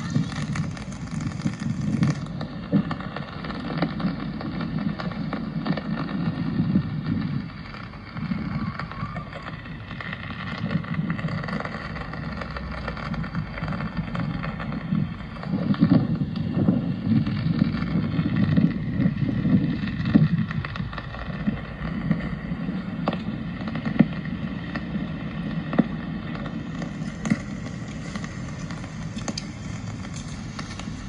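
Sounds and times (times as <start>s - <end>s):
low rumble: 0.0s - 31.0s
rain on street: 0.0s - 31.0s.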